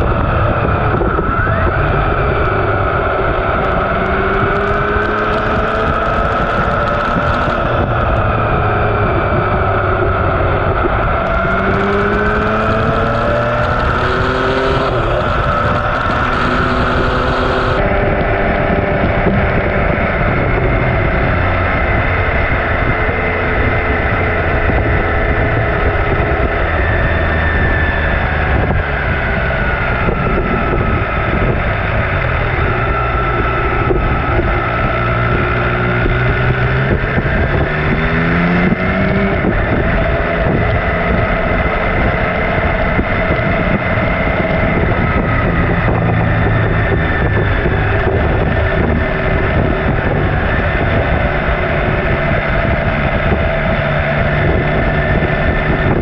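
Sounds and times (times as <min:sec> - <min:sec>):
motorcycle engine revving: 0:00.0 - 0:56.0
wind noise on microphone: 0:00.0 - 0:56.0.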